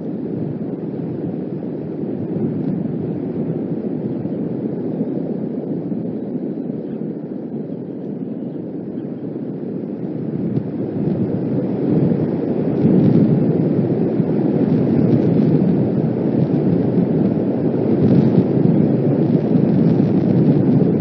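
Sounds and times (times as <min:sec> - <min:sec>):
gusting wind on microphone: 0:00.0 - 0:21.0.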